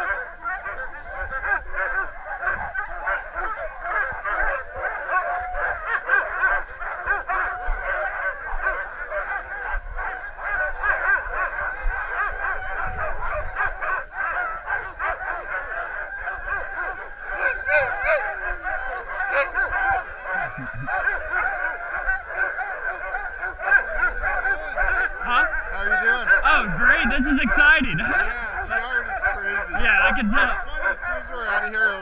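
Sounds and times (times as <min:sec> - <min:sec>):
huskies barking and yipping: 0:00.0 - 0:32.0.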